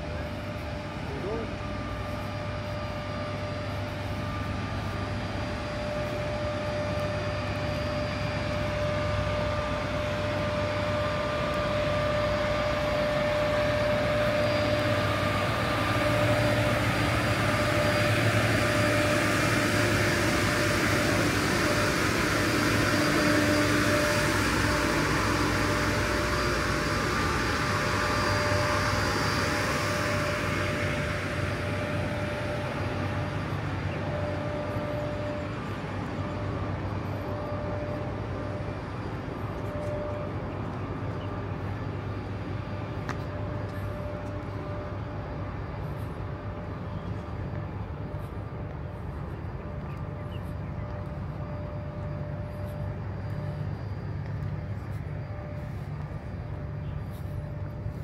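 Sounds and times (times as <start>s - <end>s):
constant hum: 0.0s - 58.0s
mechanical engine drone: 0.0s - 58.0s.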